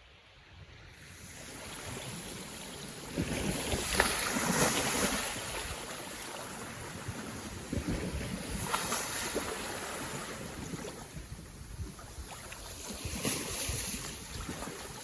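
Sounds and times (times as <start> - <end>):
wind on microphone: 0.4 - 15.0
waves washing on shore: 1.0 - 15.0.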